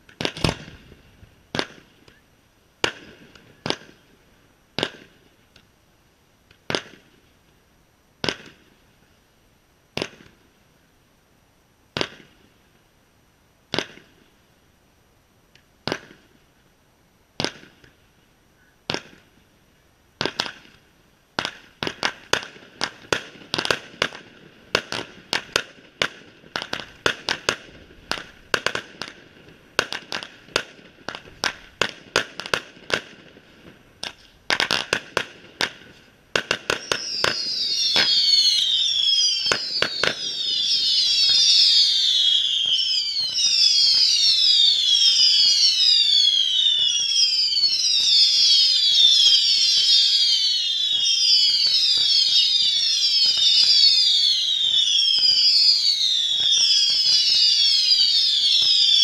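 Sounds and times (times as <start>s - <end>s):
fireworks bangs and crackles: 0.0s - 5.7s, 6.5s - 7.6s, 8.2s - 9.1s, 9.9s - 10.5s, 11.9s - 12.7s, 13.7s - 14.4s, 15.6s - 16.6s, 17.3s - 18.0s, 18.8s - 59.0s.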